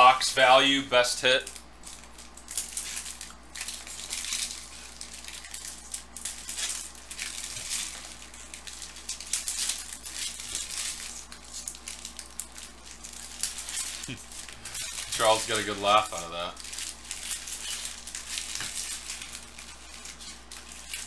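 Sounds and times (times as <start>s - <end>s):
wrappers crinkling: 0.0s - 21.0s.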